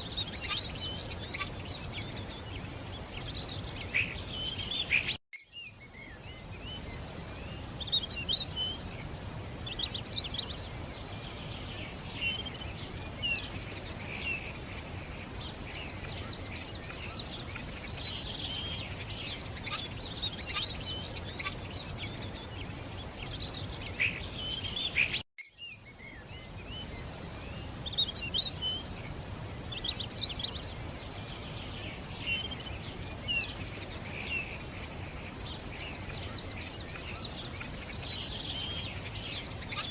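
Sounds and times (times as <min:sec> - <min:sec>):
background hiss: 0:00.0 - 0:39.9
small birds chirping: 0:00.0 - 0:39.9.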